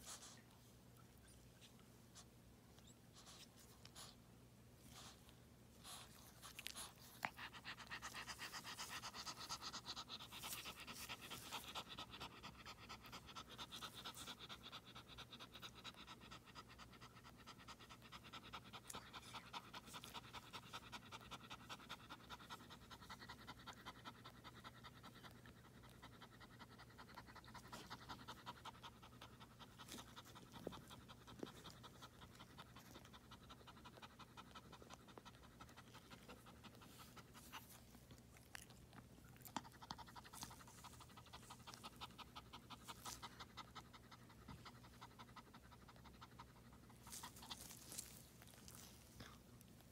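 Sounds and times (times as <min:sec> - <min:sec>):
dog panting: 0:03.2 - 0:04.2, 0:04.9 - 0:49.9.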